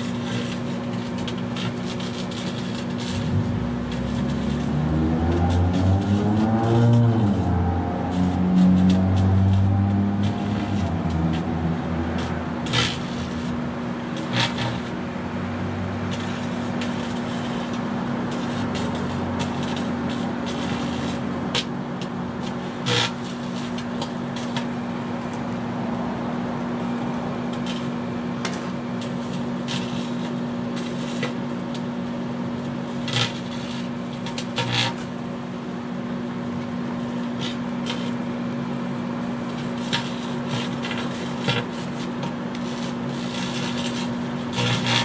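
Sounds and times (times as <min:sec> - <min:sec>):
electrical arcing crackles and snaps: 0:00.0 - 0:25.7, 0:26.6 - 0:45.0.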